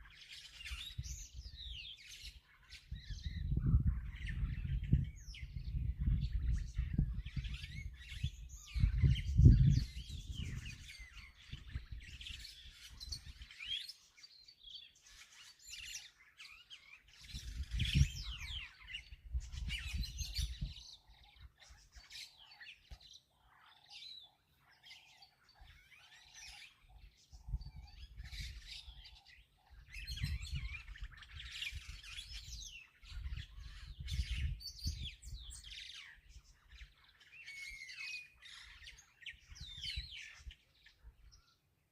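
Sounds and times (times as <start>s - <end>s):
birds chirping and calling: 0.0s - 41.9s.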